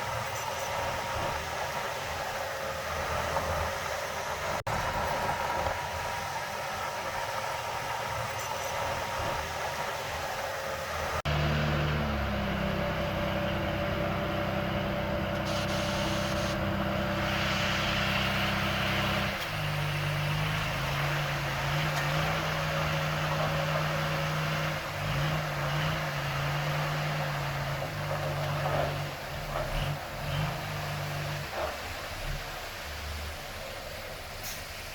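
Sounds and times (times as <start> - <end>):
diesel machinery engine running: 0.0 - 34.9.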